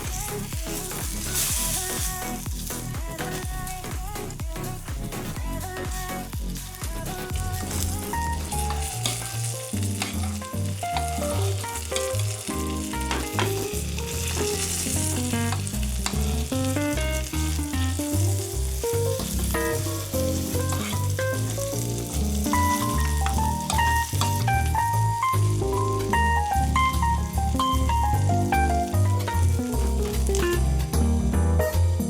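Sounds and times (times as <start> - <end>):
fish sizzling in a pan: 0.0 - 31.0
background music with bassline: 0.0 - 32.0.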